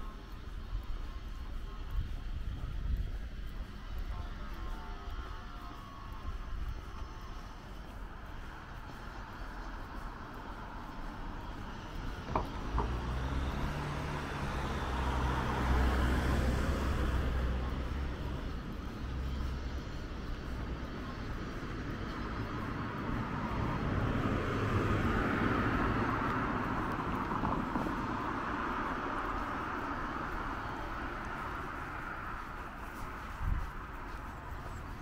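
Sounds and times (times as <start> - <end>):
low engine hum: 0.0 - 35.0
vehicles passing: 0.0 - 35.0.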